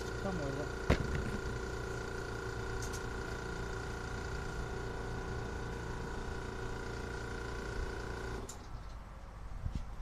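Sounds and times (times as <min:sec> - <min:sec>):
air compressor running: 0:00.0 - 0:08.7.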